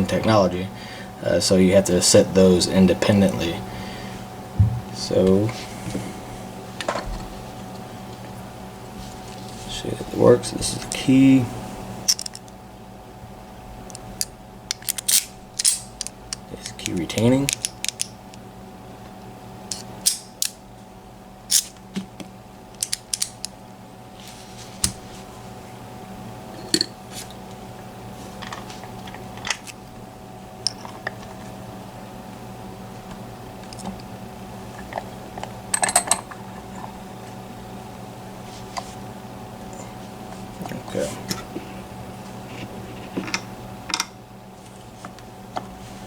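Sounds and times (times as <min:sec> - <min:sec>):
low electrical hum: 0:00.0 - 0:46.0.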